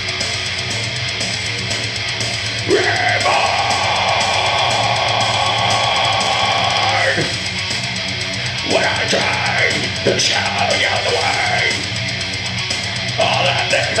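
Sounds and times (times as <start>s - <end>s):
heavy rock backing track: 0.0s - 14.0s.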